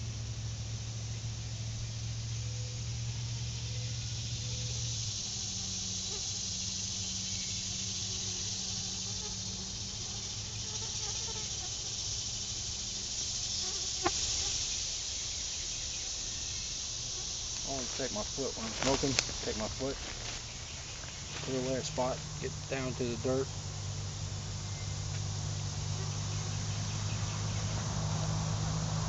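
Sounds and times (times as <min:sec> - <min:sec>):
insect chorus: 0:00.0 - 0:29.0
low steady hum: 0:00.0 - 0:29.0.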